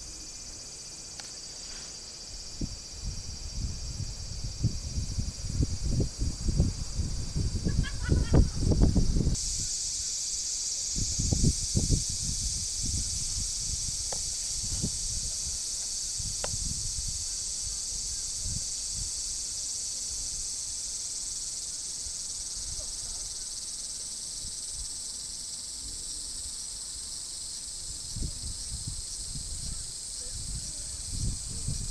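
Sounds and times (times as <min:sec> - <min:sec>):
high-pitched insect chirring: 0:00.0 - 0:31.9.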